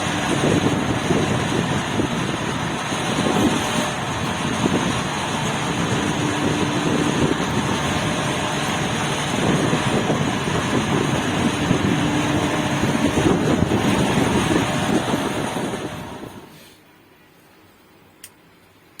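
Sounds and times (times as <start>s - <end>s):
diesel engine running: 0.0s - 16.6s.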